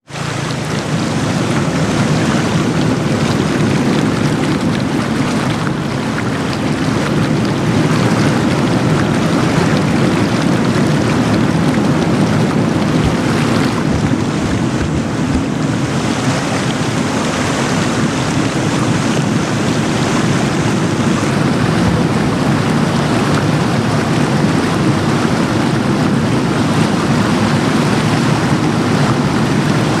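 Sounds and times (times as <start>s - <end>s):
heavy rain on trees: 0.0s - 30.0s
river rushing: 0.0s - 30.0s.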